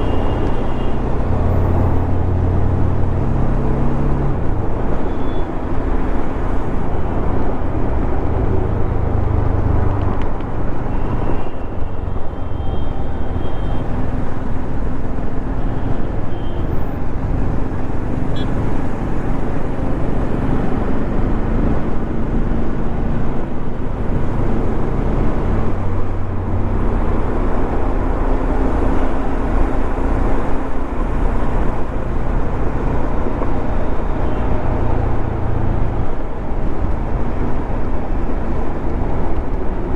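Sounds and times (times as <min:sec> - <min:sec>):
road noise rushing: 0:00.0 - 0:39.9.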